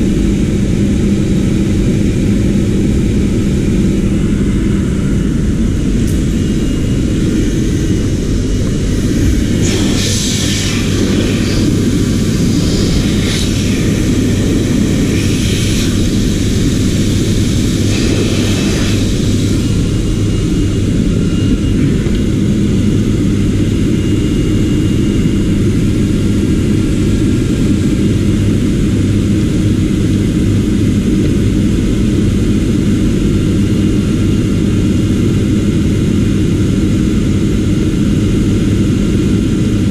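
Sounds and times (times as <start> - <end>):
machine droning and humming: 0.0 - 39.9.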